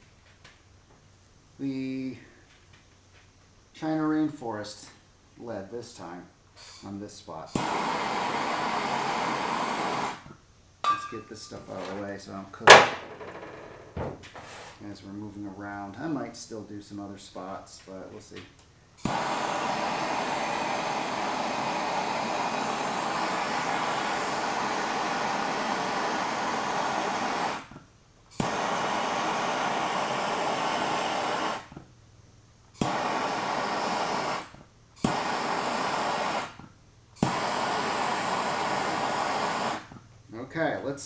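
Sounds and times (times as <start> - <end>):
torch flame hissing: 5.4 - 40.1.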